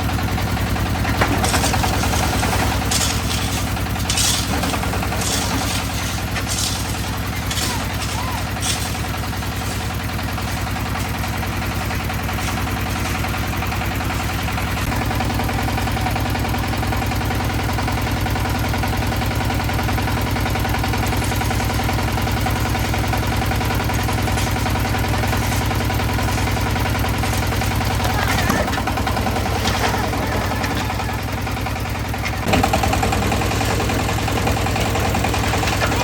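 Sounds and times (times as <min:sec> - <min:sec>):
concrete mixer engine chugging: 0:00.0 - 0:36.0.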